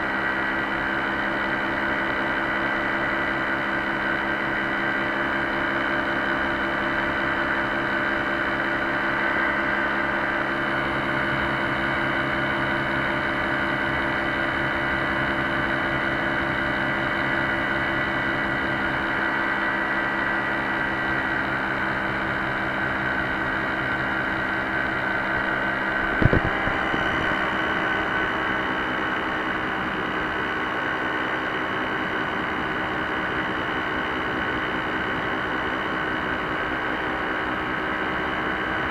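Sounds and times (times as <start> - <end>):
paramotor engine and propeller: 0.0 - 38.9.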